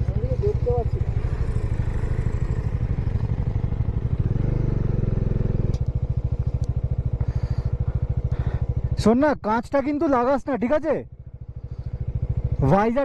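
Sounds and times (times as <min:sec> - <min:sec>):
motorcycle engine riding: 0:00.0 - 0:13.0.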